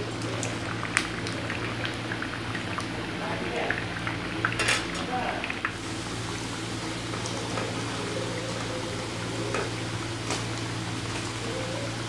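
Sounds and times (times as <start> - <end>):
deep-frying sizzle: 0.0 - 12.0.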